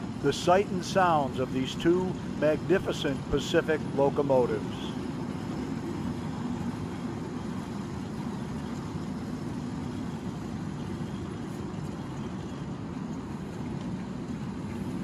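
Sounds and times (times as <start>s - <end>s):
model steam locomotives running: 0.0s - 15.0s.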